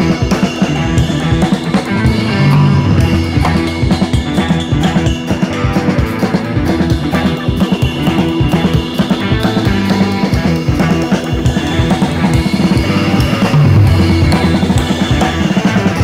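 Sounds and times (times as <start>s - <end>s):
rock music with drums: 0.0s - 16.0s.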